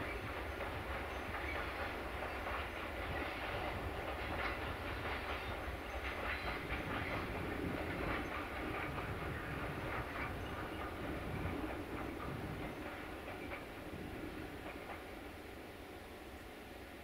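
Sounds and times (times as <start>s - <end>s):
train wheels clattering over rail joints: 0.0s - 15.3s
freight train rumble: 0.0s - 17.0s.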